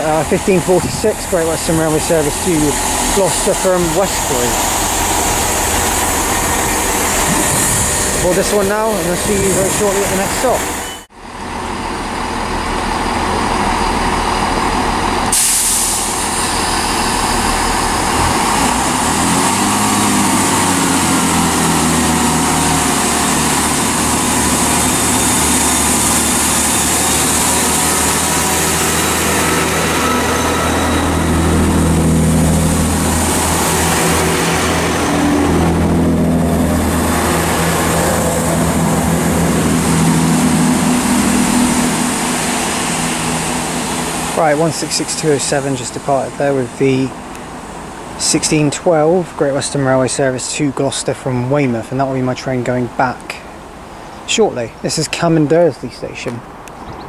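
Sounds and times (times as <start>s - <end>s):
diesel train engine drone: 0.0s - 57.0s.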